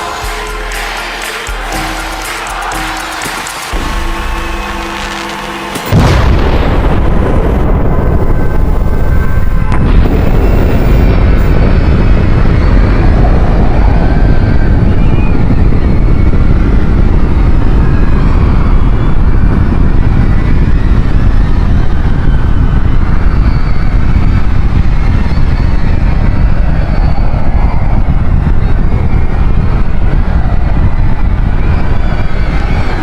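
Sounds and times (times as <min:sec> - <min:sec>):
loud steady rumbling: 0:00.0 - 0:33.0.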